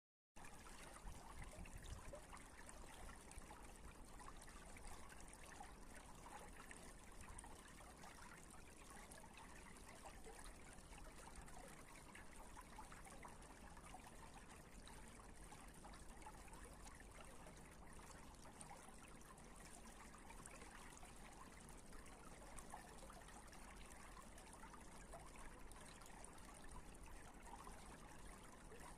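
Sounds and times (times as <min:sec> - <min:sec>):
water trickling: 0:00.4 - 0:28.9.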